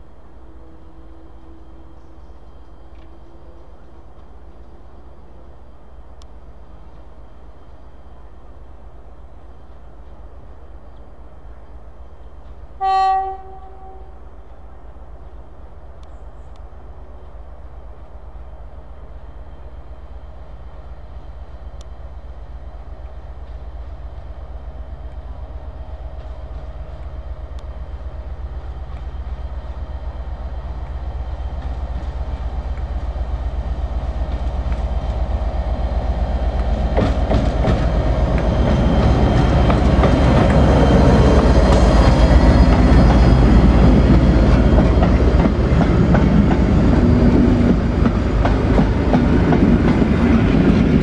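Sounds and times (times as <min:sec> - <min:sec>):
diesel locomotive engine: 0:00.0 - 0:51.0.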